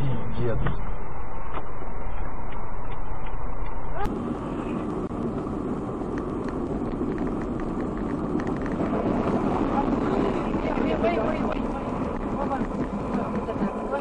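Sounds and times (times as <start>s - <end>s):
road noise: 0.0s - 14.0s
car engine: 0.7s - 14.0s.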